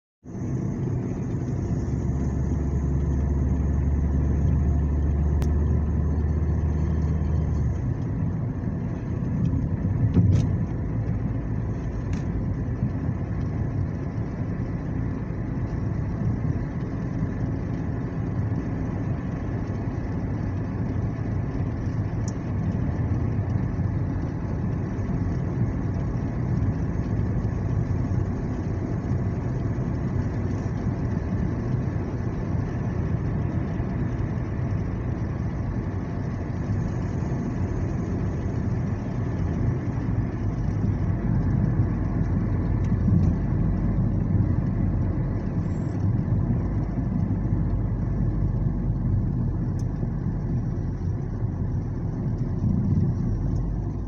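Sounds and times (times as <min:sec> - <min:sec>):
car engine and tyre rumble: 0:00.2 - 0:54.0.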